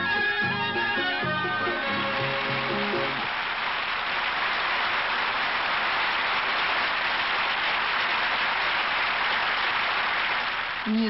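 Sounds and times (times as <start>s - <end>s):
large audience applauding: 0.8s - 11.0s.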